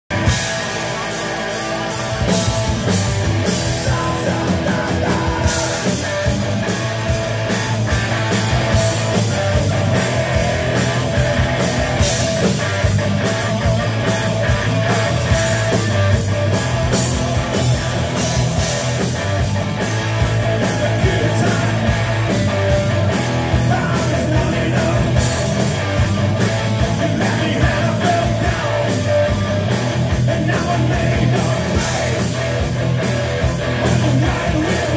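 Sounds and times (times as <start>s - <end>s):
drums beating: 0.1s - 34.9s
rock band playing live: 0.1s - 34.9s.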